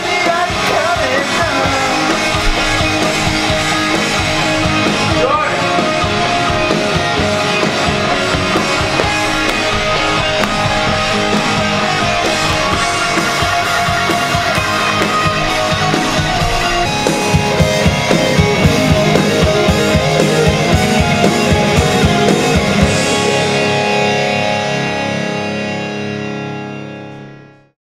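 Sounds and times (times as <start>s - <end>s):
loud rock music: 0.0s - 27.8s.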